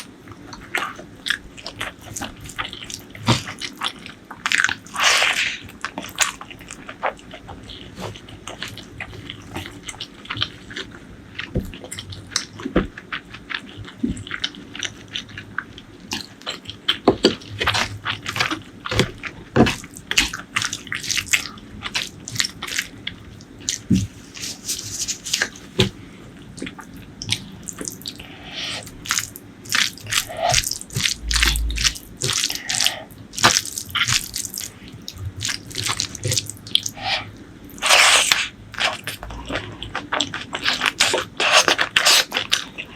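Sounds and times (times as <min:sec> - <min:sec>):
person chewing wet food: 0:00.0 - 0:42.9.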